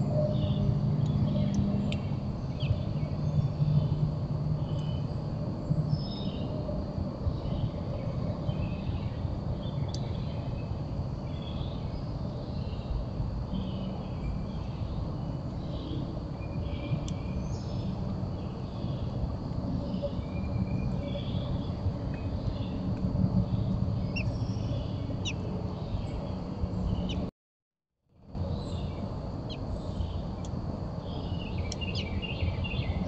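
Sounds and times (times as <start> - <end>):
steady low rumble: 0.0 - 27.3.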